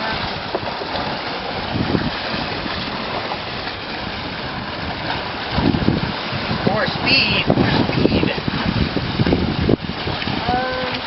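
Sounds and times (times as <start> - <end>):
wind and water rushing: 0.0 - 11.0.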